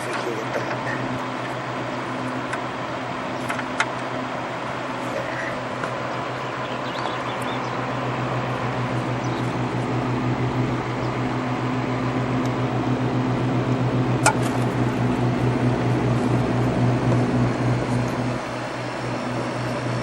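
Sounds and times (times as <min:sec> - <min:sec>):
air conditioner fan rushing: 0:00.0 - 0:20.0
low electrical hum: 0:00.0 - 0:20.0.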